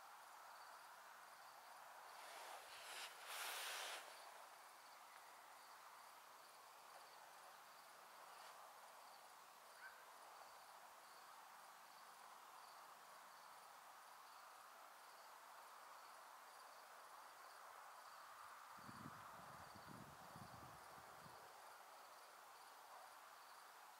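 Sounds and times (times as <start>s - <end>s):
background hiss: 0.0s - 23.9s
crickets chirping: 0.0s - 23.9s.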